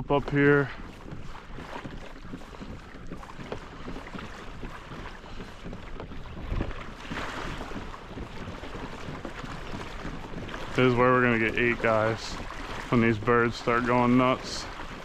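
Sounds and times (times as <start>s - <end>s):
water lapping against hull: 0.0s - 15.0s
wind buffeting microphone: 0.0s - 15.0s.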